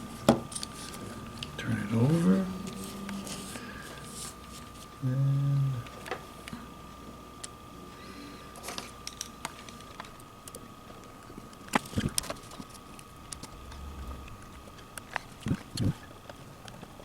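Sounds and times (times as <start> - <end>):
faint high whine: 0.0 - 16.8.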